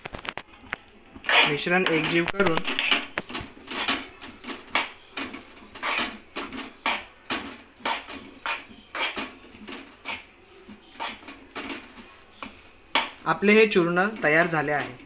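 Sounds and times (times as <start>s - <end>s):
spoon scraping a metal pan: 1.2s - 15.0s.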